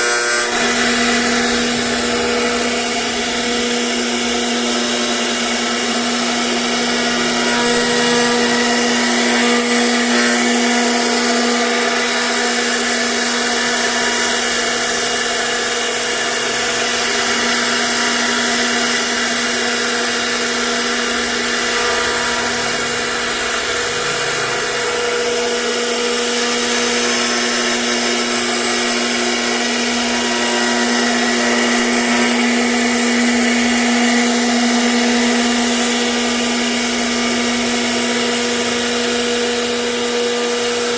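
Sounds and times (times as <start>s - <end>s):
router cutting wood: 0.0s - 40.9s
router spindle whine: 0.0s - 40.9s.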